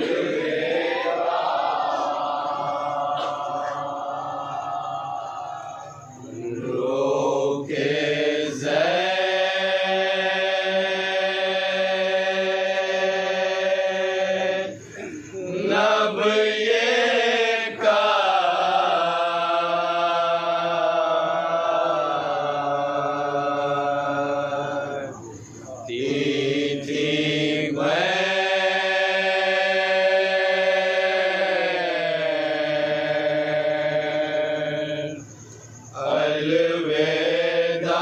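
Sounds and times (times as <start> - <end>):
person chanting a lament: 0.0 - 35.3.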